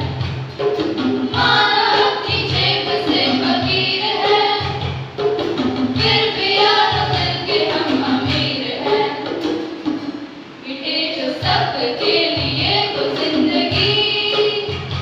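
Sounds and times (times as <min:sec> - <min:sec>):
choir singing: 0:01.3 - 0:04.9, 0:06.0 - 0:14.8.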